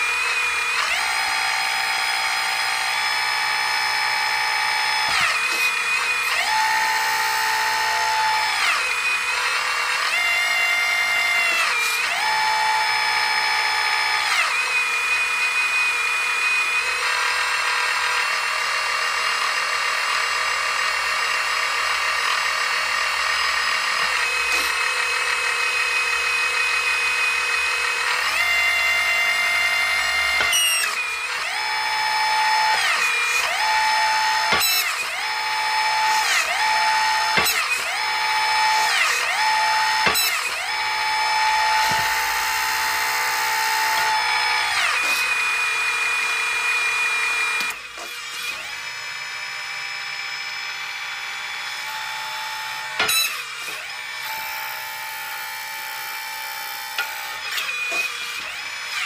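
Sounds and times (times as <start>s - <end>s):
hydraulic system whine: 0.0s - 59.0s.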